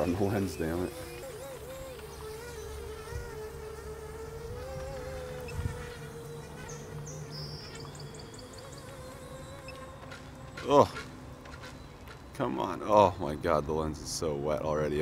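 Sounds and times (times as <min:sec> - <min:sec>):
distant model motor buzz: 0:00.0 - 0:13.0.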